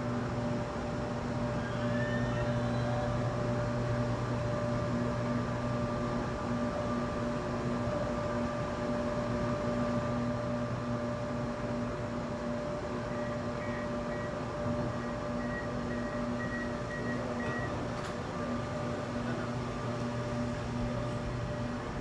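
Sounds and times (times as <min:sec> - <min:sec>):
train mechanical hum: 0:00.0 - 0:22.0.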